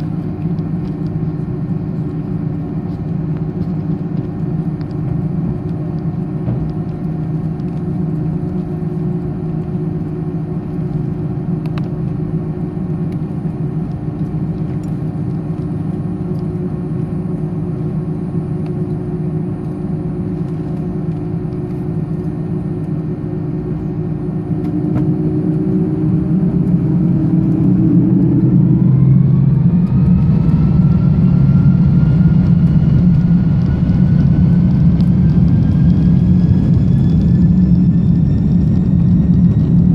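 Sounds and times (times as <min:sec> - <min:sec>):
jet engine whine: 0:00.0 - 0:39.9
jet engines heard from cabin: 0:00.0 - 0:39.9.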